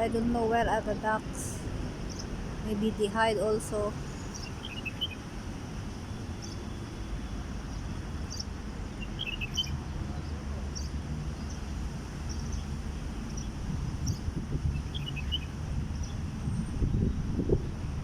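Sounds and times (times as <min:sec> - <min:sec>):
small birds chirping: 0:02.0 - 0:05.3, 0:05.9 - 0:17.2.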